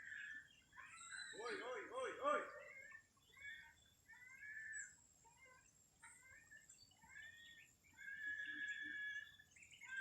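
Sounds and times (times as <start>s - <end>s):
birds chirping and warbling: 0.0s - 10.0s.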